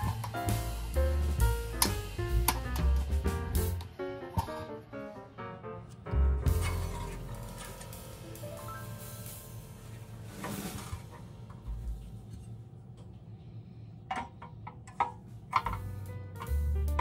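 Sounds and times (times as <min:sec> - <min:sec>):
background music with held tones: 0:00.0 - 0:12.4, 0:14.8 - 0:17.0.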